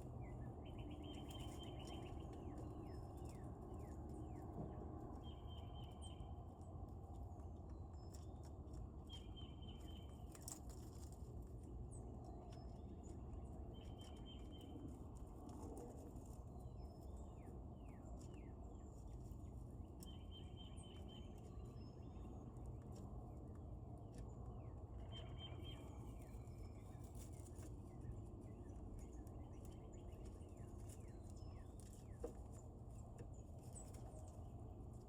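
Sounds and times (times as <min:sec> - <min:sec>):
songbirds calling: 0:00.0 - 0:06.4, 0:07.9 - 0:11.1, 0:11.9 - 0:15.0, 0:15.7 - 0:23.5, 0:24.1 - 0:35.0.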